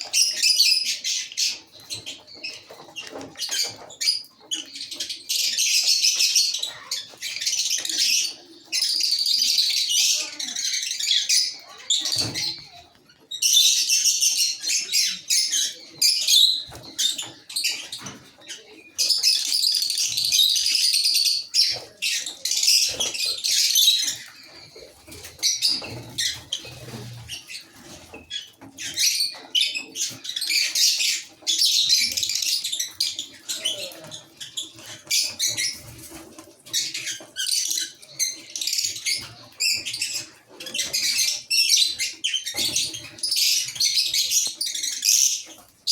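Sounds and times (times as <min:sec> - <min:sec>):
birds shrill chattering: 0:00.0 - 0:45.9.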